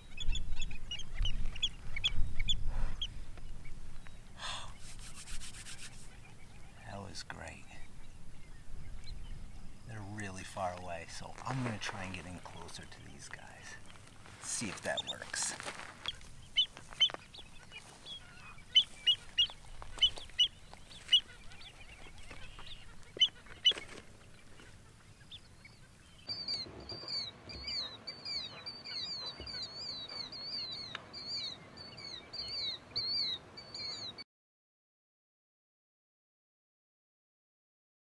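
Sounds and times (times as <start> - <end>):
birds calling: 0.0 - 34.2.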